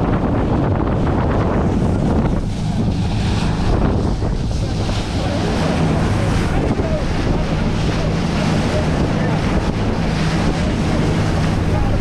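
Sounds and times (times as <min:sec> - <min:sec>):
boat engine running: 0:00.0 - 0:12.0
water rushing along hull: 0:00.0 - 0:12.0
wind buffeting microphone: 0:00.0 - 0:12.0.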